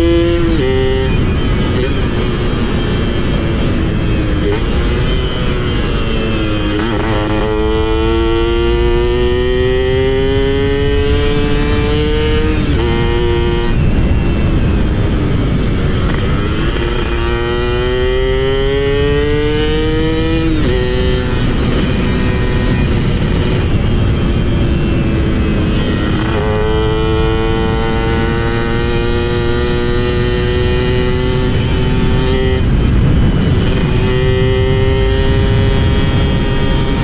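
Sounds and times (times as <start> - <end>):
steady rushing noise: 0.0 - 37.0
two-stroke motorcycle engine accelerating: 0.0 - 37.0.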